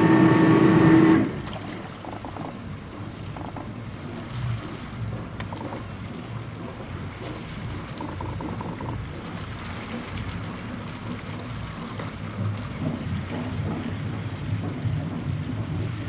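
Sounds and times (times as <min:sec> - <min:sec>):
boat diesel engines idling: 0:00.0 - 0:16.0.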